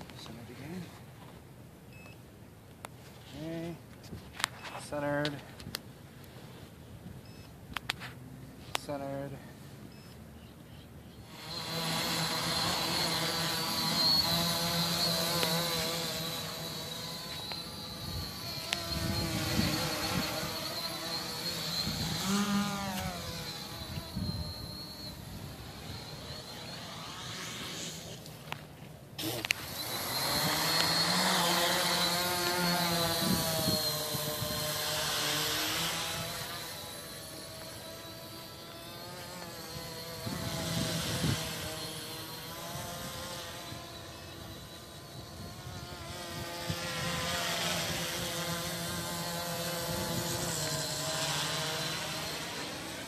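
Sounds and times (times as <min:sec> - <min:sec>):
drone motors buzzing with high whine: 0:03.0 - 0:53.0.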